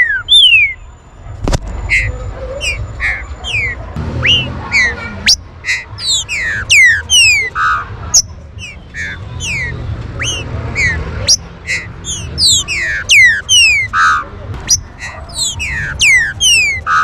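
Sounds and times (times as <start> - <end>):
bird whistling falling notes: 0.0 - 0.8, 1.9 - 17.0.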